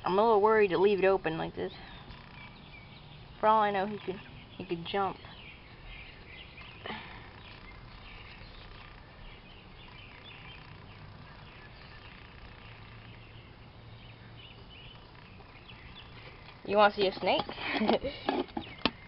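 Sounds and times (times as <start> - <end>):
low background noise: 0.0 - 19.0
faint bird chirps: 1.6 - 17.4.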